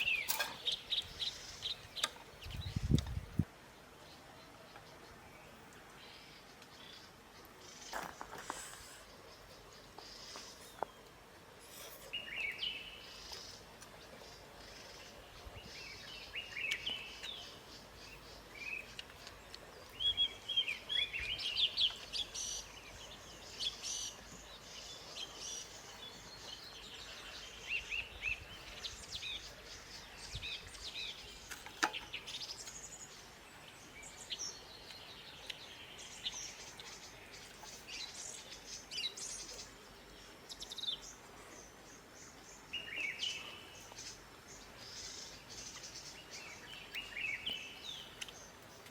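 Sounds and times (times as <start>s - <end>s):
faint background hiss: 0.0s - 48.9s
wild birds chirping: 0.0s - 48.9s.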